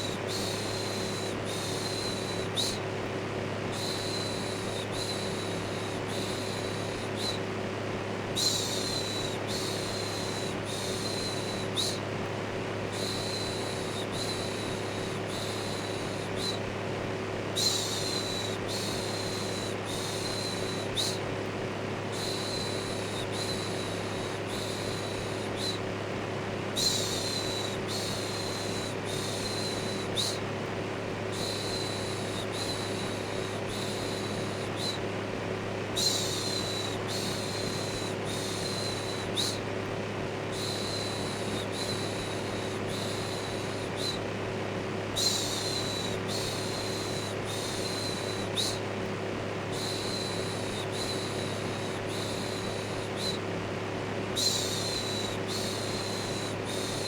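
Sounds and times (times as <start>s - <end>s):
electric fan humming: 0.0s - 57.0s.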